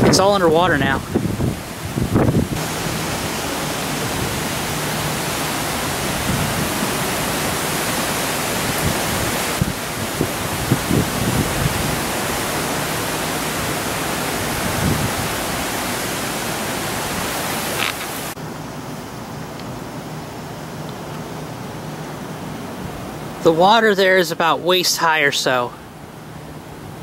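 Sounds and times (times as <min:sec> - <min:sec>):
rushing floodwater: 0:00.0 - 0:27.0
wind: 0:00.0 - 0:27.0.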